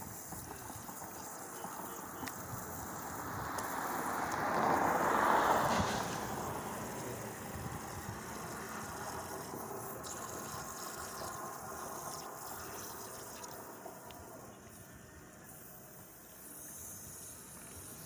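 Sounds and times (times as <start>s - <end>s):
water hissing from leaking pipe: 0.0s - 18.0s.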